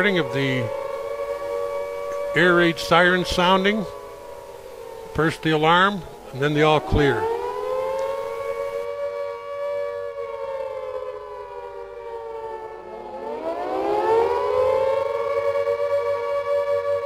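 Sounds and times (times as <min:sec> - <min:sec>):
air raid siren wailing: 0:00.0 - 0:17.0.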